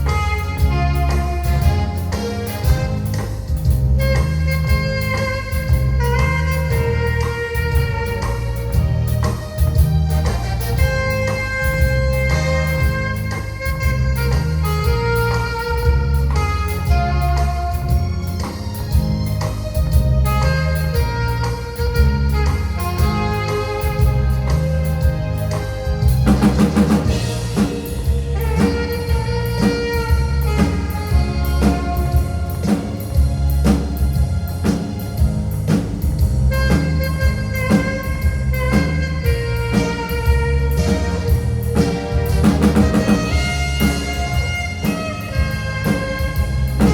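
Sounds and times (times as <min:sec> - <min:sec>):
alto saxophone melody: 0:00.0 - 0:46.9
drum kit: 0:00.0 - 0:46.9
keyboard: 0:00.0 - 0:46.9.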